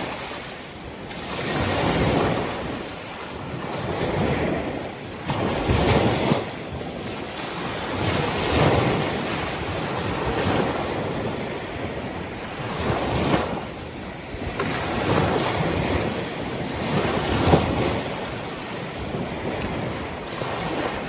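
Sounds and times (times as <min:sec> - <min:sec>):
ocean surf breaking: 0:00.0 - 0:21.0
wind on microphone: 0:00.0 - 0:21.0.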